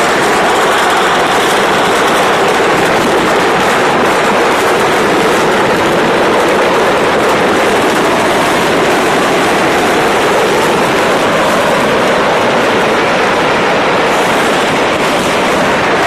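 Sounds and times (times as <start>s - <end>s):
firecrackers crackling: 0.0s - 16.0s.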